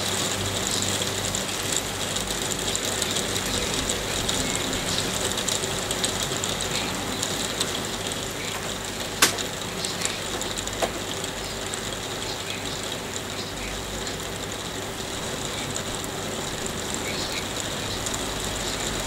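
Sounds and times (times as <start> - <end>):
hailstones pattering: 0.0 - 19.0
sharp hail hits: 0.0 - 19.0.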